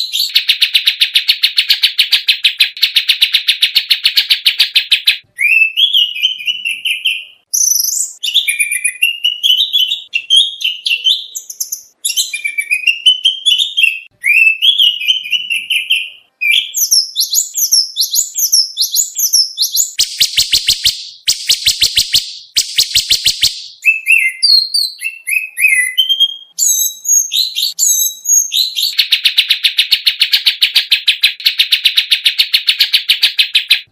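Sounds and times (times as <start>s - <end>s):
bird singing whistled phrases: 0.0s - 33.9s.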